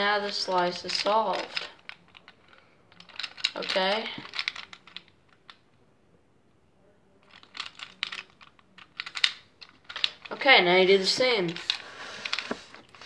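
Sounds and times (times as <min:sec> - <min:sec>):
plastic puzzle gears clicking: 0:00.1 - 0:05.6, 0:07.3 - 0:10.4, 0:11.0 - 0:13.0.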